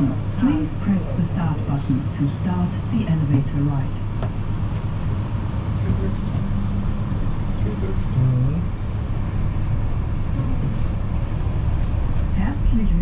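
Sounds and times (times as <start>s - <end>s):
elevator drive humming and rumbling: 0.0s - 13.0s.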